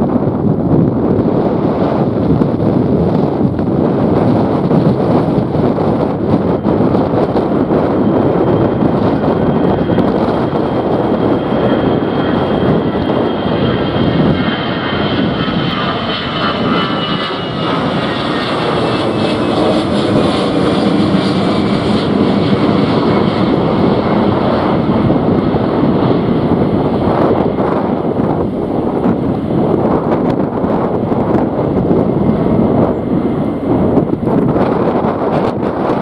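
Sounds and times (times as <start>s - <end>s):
high fan whine: 0.0s - 36.0s
jet airliner engines: 0.0s - 36.0s.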